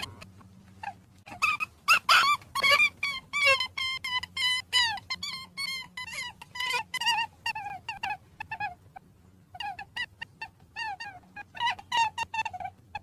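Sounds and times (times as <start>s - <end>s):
rabbit squeaking: 0.0s - 13.0s.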